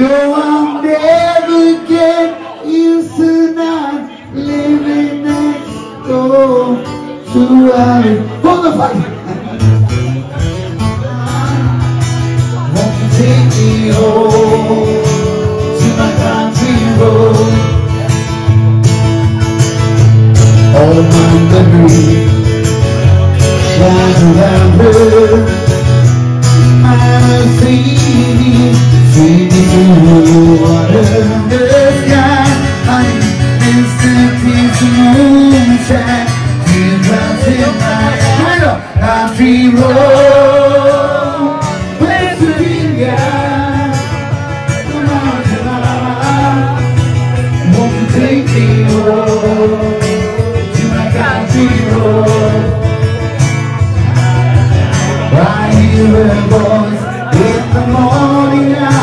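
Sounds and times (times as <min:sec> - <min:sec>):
man singing: 0:00.0 - 0:18.7, 0:19.3 - 0:59.0
acoustic guitar: 0:00.0 - 0:59.0.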